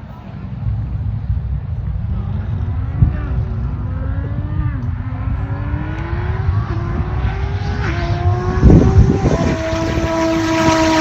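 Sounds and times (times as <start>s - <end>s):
wind thumps on microphone: 0.4s - 11.0s
car engine accelerating hard: 0.8s - 11.0s.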